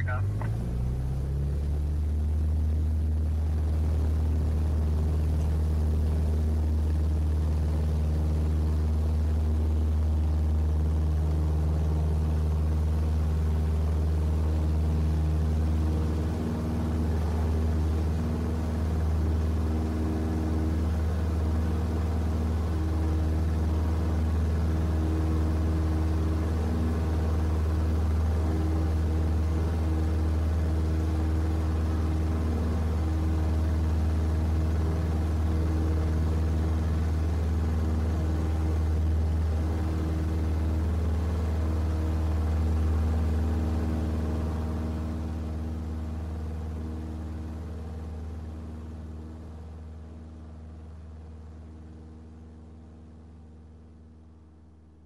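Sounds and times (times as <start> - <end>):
aircraft engine idling drone: 0.0 - 55.0.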